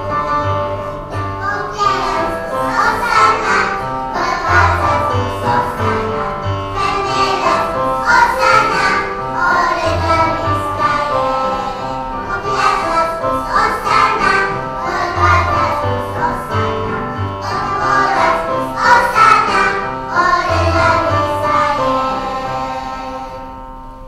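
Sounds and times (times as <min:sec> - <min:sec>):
children's choir singing: 0:00.0 - 0:23.8.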